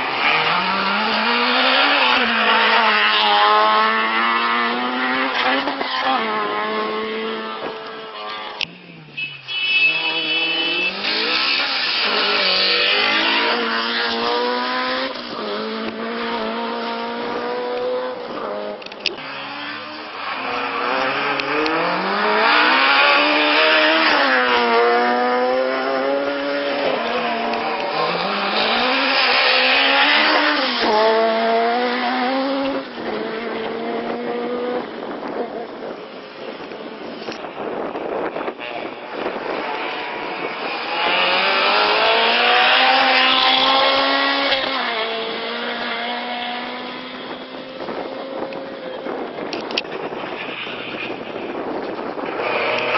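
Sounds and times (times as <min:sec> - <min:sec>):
rally car engine revving: 0:00.0 - 0:09.0, 0:09.9 - 0:52.9.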